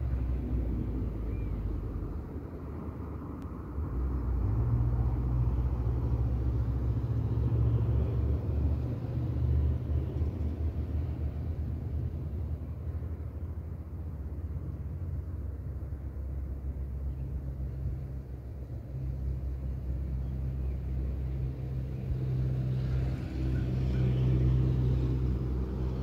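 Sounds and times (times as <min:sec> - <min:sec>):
low unsteady rumble: 0:00.0 - 0:26.0.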